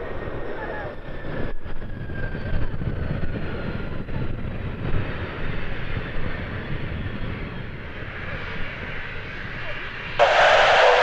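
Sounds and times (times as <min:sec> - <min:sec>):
jet engines rumbling with turbine whine: 0:00.0 - 0:11.0.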